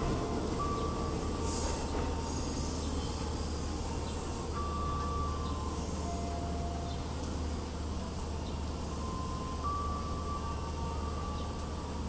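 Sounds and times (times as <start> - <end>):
electric train rumbling away: 0.0 - 12.0.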